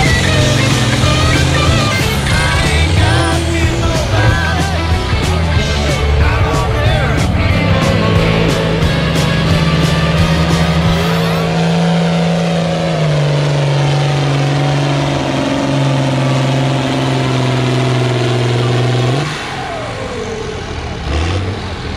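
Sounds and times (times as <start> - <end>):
diesel tractor engine under load: 0.0 - 21.9.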